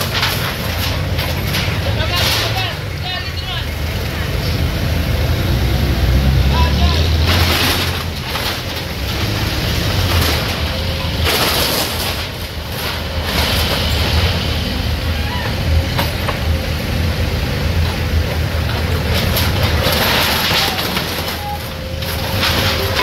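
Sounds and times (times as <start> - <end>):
bucket pushing apart metal and wood: 0.0 - 3.6, 6.0 - 23.0
diesel engine running under load: 0.0 - 23.0.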